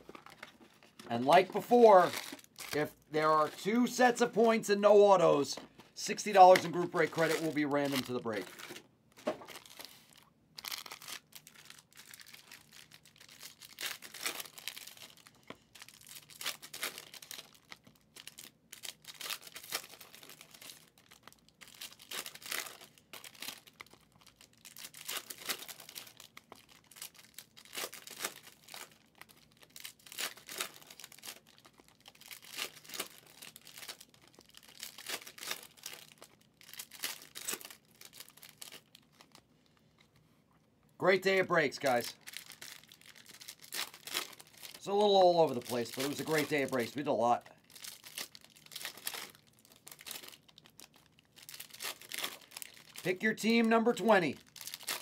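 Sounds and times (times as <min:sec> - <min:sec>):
wrappers crinkling: 0:00.0 - 0:40.2, 0:41.0 - 0:55.0
foil packs tearing: 0:01.1 - 0:04.6, 0:06.1 - 0:08.8, 0:09.5 - 0:39.0, 0:41.8 - 0:47.1, 0:47.7 - 0:55.0.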